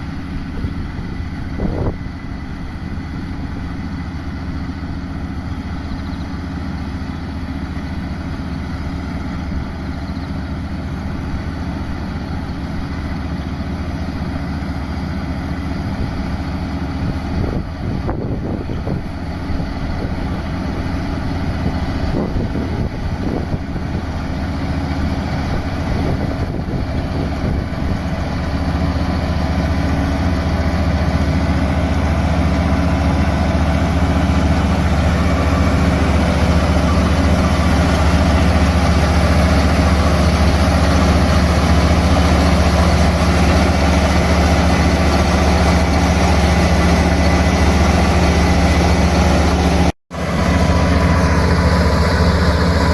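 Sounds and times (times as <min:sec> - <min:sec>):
harvester engine humming: 0:00.0 - 0:52.9.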